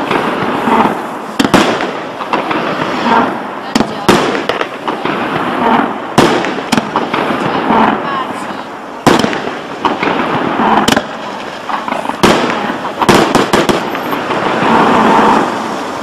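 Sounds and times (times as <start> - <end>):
crackling of bursting shells: 0.0 - 8.0, 9.0 - 15.8
fireworks bangs: 0.0 - 16.0.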